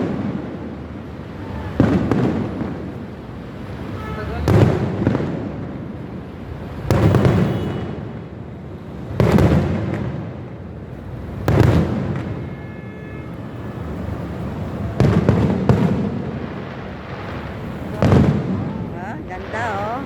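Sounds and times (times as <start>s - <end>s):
fireworks bangs echoing: 0.0s - 20.0s
fireworks crackle: 0.0s - 20.0s
rumble of distant fireworks: 0.0s - 20.0s.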